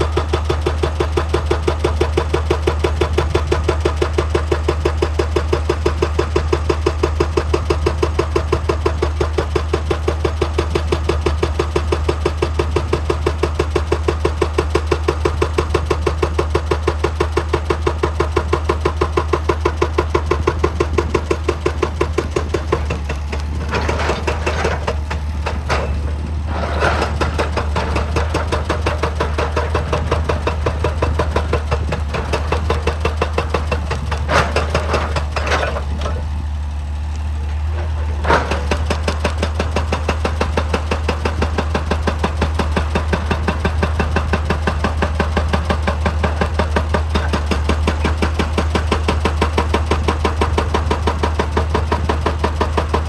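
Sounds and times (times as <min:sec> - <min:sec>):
hydraulic breaker hammering: 0:00.0 - 0:36.4, 0:37.5 - 0:53.0
diesel engine drone: 0:00.0 - 0:53.0.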